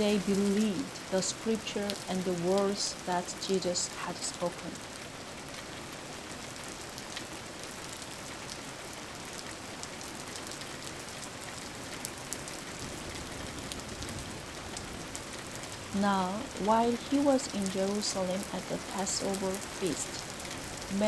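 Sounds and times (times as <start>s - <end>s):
raindrops ticking: 0.0s - 5.9s, 6.5s - 21.0s
rain falling: 0.0s - 21.0s.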